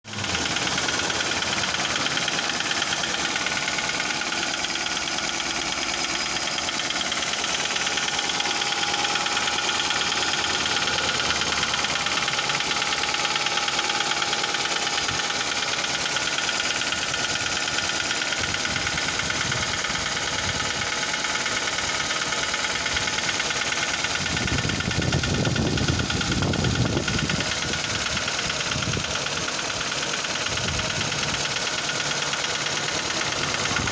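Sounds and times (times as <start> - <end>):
car engine running with ticking knock: 0.0 - 33.9.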